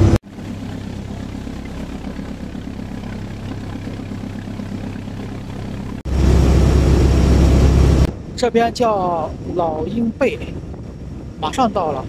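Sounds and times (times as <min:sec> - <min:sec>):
ferry engine droning: 0:00.0 - 0:09.8.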